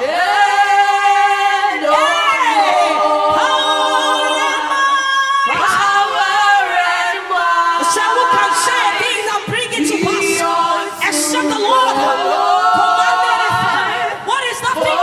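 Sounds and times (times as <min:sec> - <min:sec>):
unaccompanied singing voices: 0:00.0 - 0:15.0.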